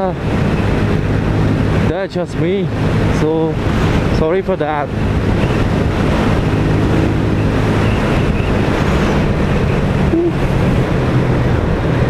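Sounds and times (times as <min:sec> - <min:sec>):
motorcycle engine humming: 0:00.0 - 0:12.0
wind rushing over microphone: 0:00.0 - 0:12.0.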